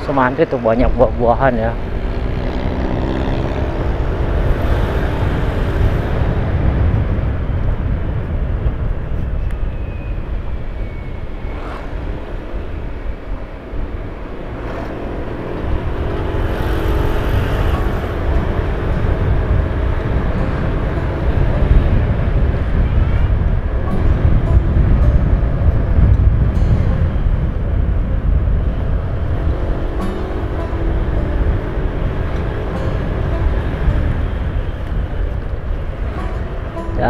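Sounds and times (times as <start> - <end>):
vehicle engine and road noise: 0.0 - 37.0.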